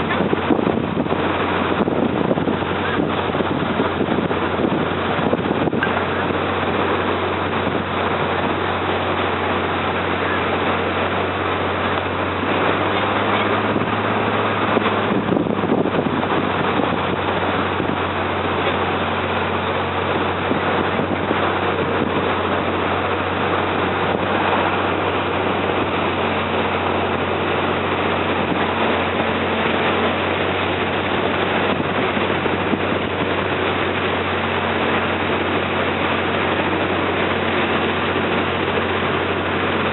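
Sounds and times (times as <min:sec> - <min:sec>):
boat engine humming: 0:00.0 - 0:39.9
continuous rushing noise: 0:00.0 - 0:39.9.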